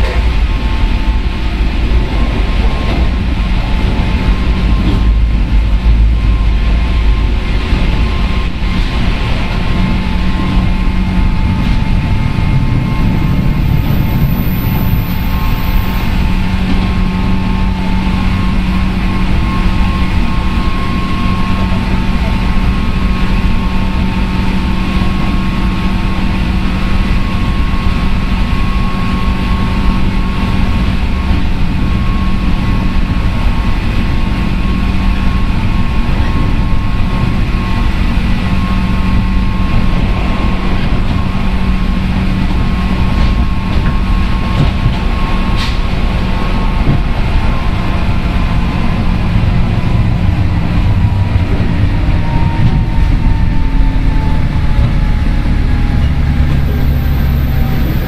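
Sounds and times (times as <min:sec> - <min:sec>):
train motor hum: 0:00.0 - 0:58.0
wheels rumbling on rails: 0:00.0 - 0:58.0.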